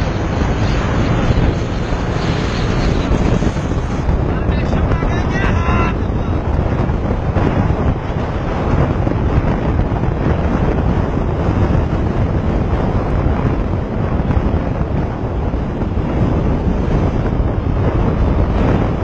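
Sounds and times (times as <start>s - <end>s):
motorcycle running: 0.0s - 19.0s
road noise: 0.0s - 19.0s
wind buffeting microphone: 0.0s - 19.0s.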